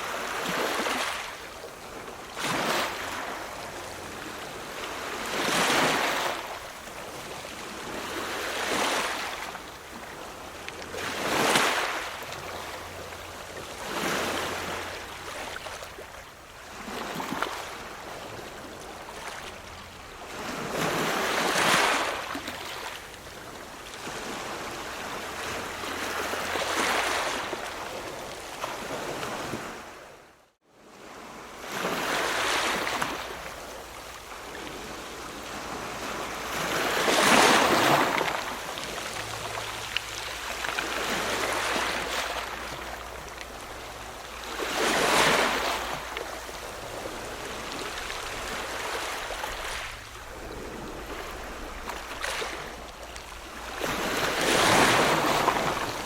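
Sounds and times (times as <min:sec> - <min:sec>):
ocean waves breaking: 0:00.0 - 0:30.2, 0:31.0 - 0:56.0.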